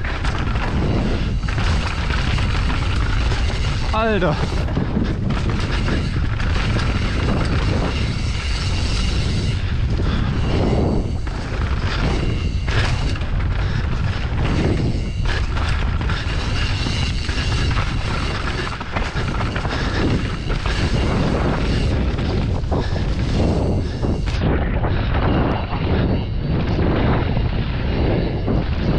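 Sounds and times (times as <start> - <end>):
tyres on dirt: 0.0 - 27.8
bike knocking and rattling: 0.0 - 28.9
wind rumble on microphone: 0.0 - 28.9.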